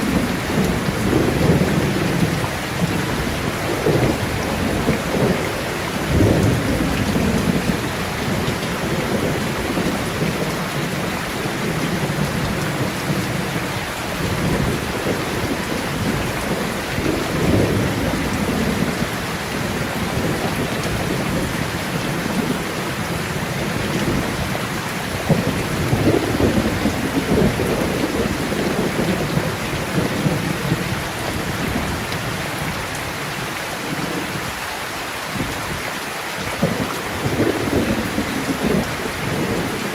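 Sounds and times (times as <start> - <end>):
low rolling thunder: 0.0 - 32.8, 36.5 - 39.9
heavy rain: 0.0 - 39.9.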